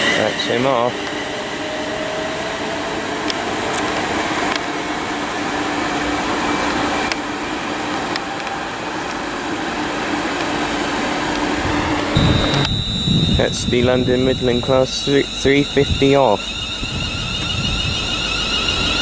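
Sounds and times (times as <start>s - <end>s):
electric train hum: 0.0s - 19.0s
faint rising whine: 0.0s - 19.0s.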